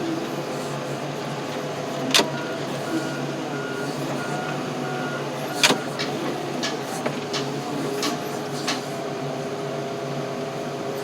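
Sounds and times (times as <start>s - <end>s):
heavy machine engine running: 0.0s - 11.0s.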